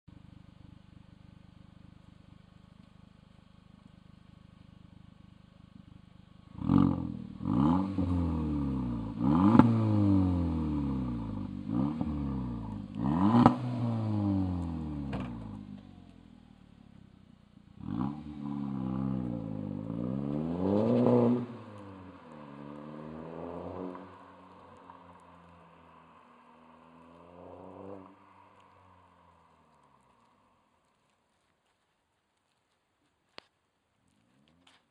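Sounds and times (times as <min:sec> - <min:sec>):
car engine idling and revving: 0:00.1 - 0:31.5.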